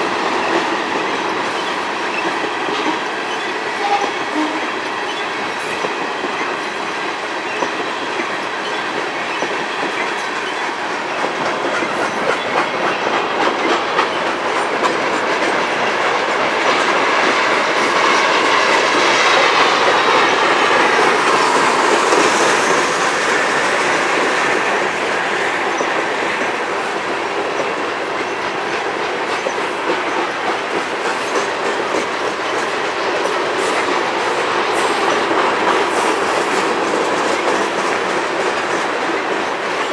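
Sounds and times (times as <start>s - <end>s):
wheels clicking over rail joints: 0.0s - 39.9s.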